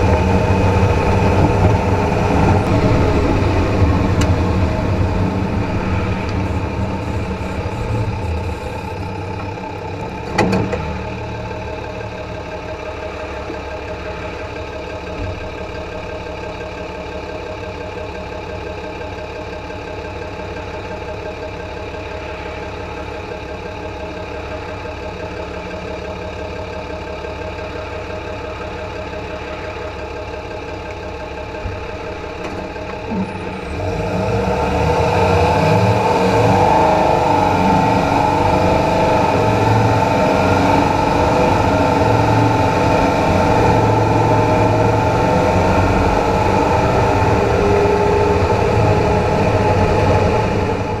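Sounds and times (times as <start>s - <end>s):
drivetrain and road noise: 0.0s - 51.0s
pickup truck engine: 0.0s - 51.0s.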